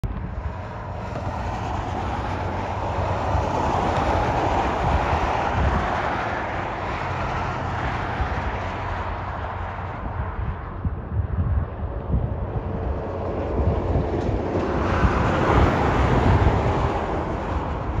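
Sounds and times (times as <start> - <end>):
freight train rumbling past: 0.2 - 18.0.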